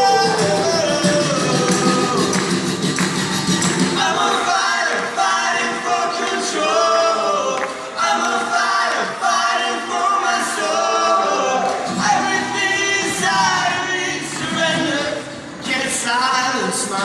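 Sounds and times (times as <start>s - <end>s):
voices singing rock song: 0.0s - 17.0s.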